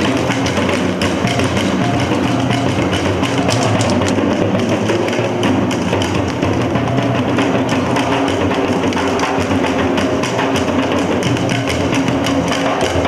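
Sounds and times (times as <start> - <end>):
tom drums struck quickly: 0.0 - 13.0.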